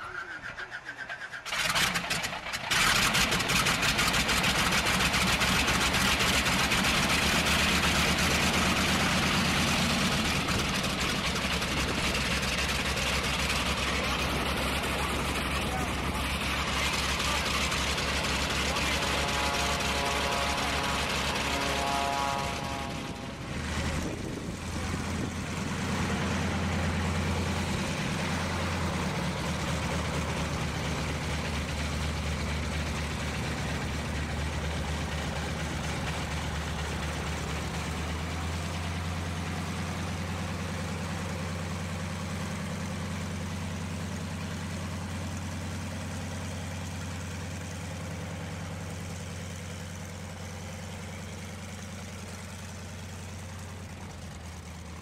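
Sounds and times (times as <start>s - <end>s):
airplane radial engine idling: 0.0s - 55.0s.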